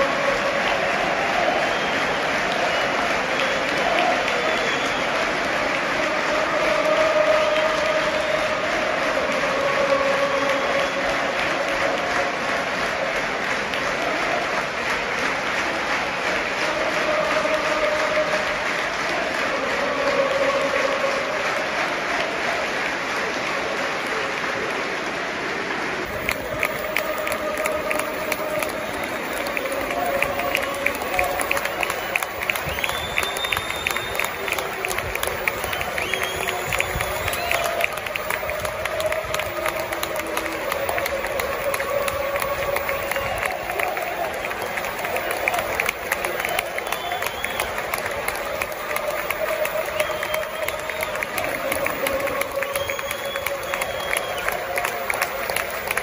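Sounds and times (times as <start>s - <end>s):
claps near microphone: 0.0s - 56.0s
crowd singing long notes: 0.0s - 56.0s
stadium crowd applauding: 0.0s - 56.0s.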